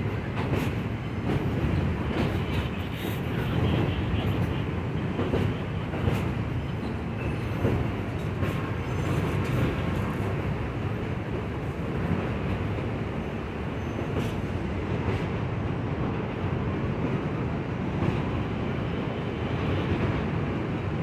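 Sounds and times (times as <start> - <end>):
subway train low rumble: 0.0 - 21.0
wheels clacking on rails: 0.0 - 21.0.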